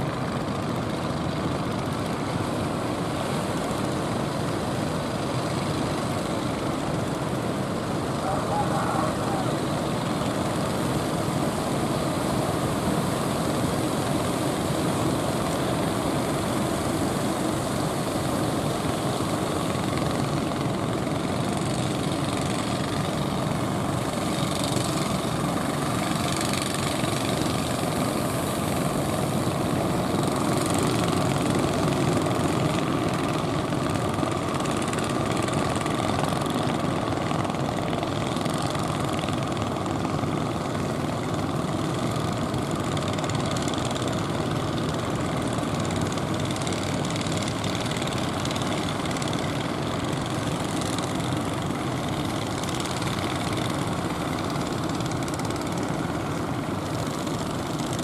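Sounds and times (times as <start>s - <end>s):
boat motors running: 5.6s - 58.0s.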